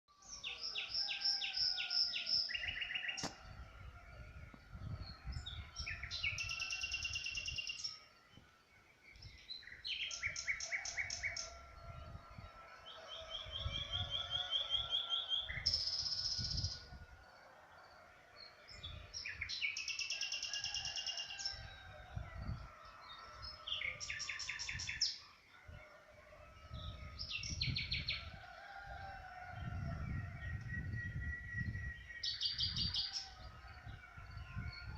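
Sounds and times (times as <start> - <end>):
songbirds trilling: 0.2 - 34.9.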